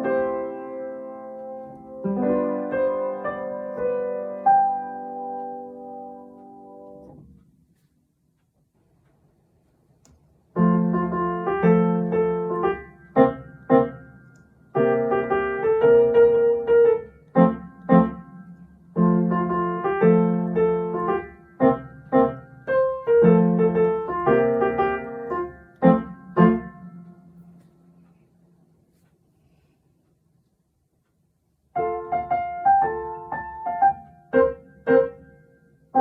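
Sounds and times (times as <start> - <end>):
piano march: 0.0 - 7.2, 10.5 - 28.0, 31.7 - 36.0.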